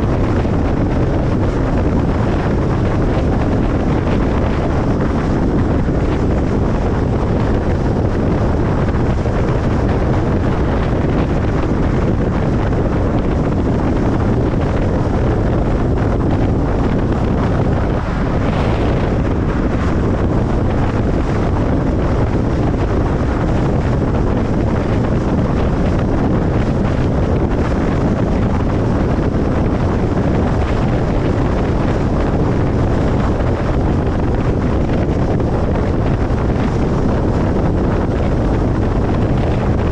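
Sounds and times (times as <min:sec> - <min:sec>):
wind rushing: 0:00.0 - 0:39.9.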